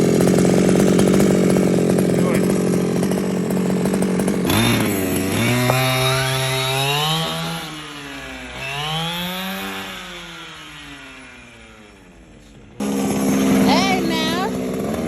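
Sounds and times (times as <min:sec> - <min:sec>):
small two-stroke engine revving: 0:00.0 - 0:15.0.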